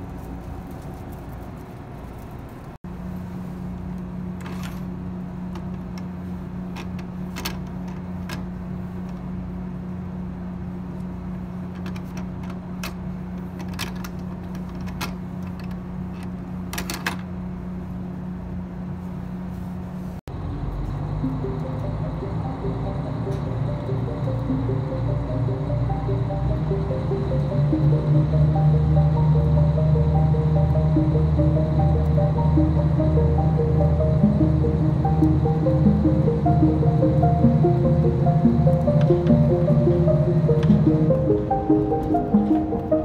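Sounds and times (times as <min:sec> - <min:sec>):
diesel railcar engine drone: 0:00.0 - 0:43.0.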